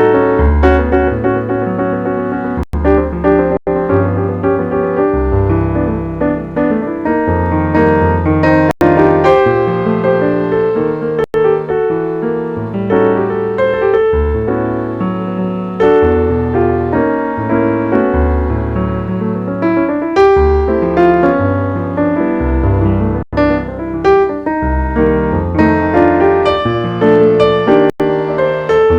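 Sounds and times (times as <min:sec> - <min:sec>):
jazz piano: 0:00.0 - 0:28.9.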